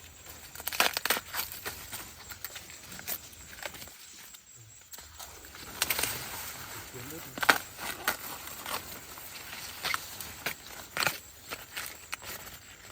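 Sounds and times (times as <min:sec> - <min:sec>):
sharp snaps and crackles: 0:00.0 - 0:12.9.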